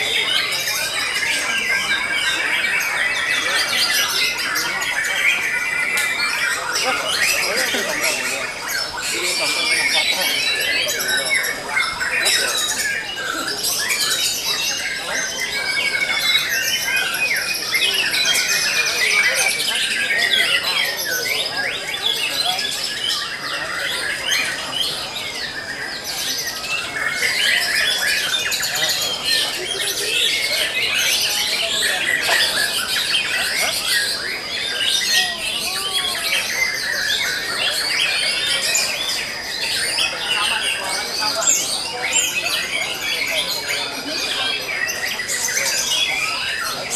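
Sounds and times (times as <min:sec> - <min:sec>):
songbirds singing in chorus: 0:00.0 - 0:46.9.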